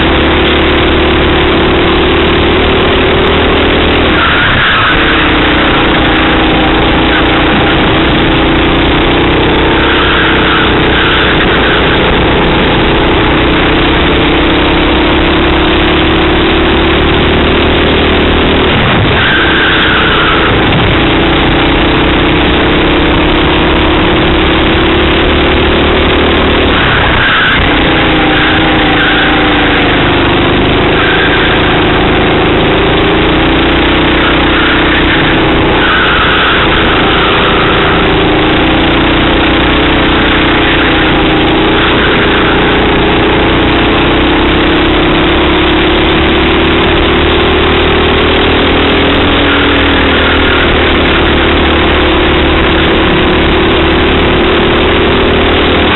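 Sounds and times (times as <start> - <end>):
kart engine running: 0.0 - 55.9.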